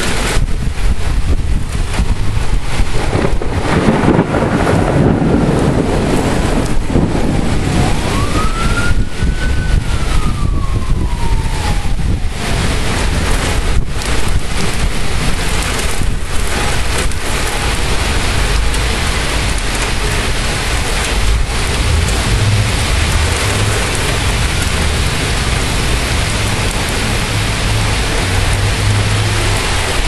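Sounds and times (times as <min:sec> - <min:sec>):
heavy rain pouring: 0:00.0 - 0:30.0
low thunder rumble: 0:00.0 - 0:30.0.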